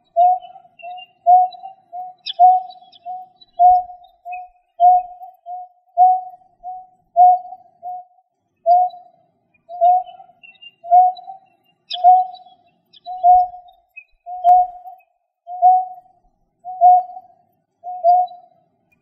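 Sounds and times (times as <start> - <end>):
bird hooting: 0.0 - 8.1, 8.7 - 9.1, 9.7 - 13.7, 14.3 - 14.9, 15.5 - 18.5
faint high chirps: 0.0 - 19.0.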